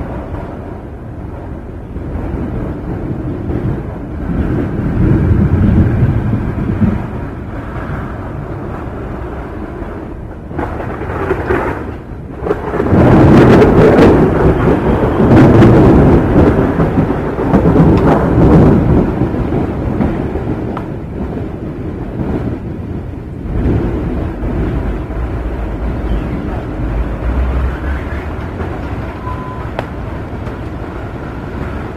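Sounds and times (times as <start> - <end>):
sharp thunder crack: 0.0 - 31.9
thunder rumble: 0.0 - 31.9.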